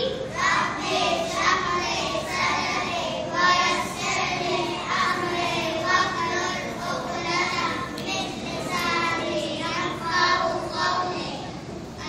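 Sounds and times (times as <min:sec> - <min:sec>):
young children singing in unison: 0:00.0 - 0:12.0.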